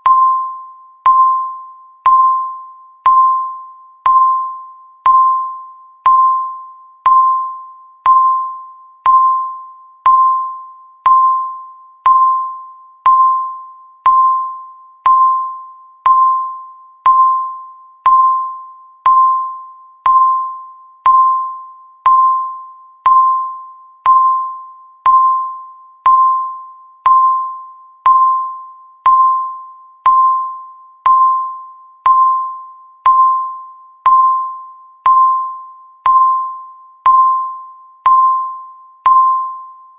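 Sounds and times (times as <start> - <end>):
electronic timer ticking: 0.0 - 39.6.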